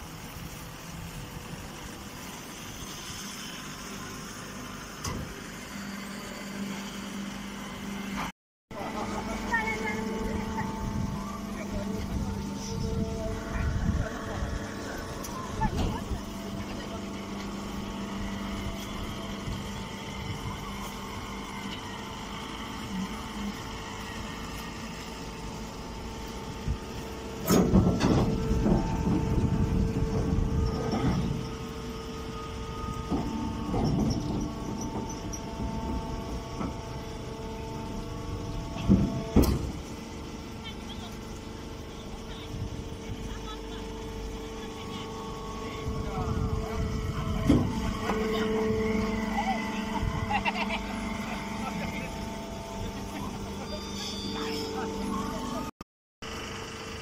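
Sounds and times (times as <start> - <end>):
baling machinery humming: 0.0 - 57.0.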